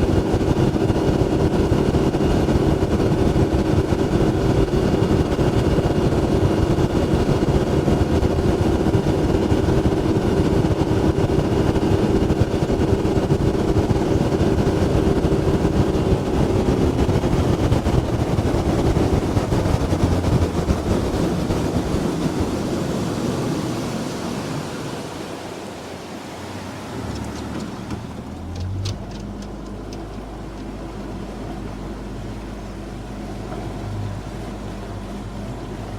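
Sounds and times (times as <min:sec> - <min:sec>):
boat motor humming: 0:00.0 - 0:35.9
water rushing: 0:00.0 - 0:35.9.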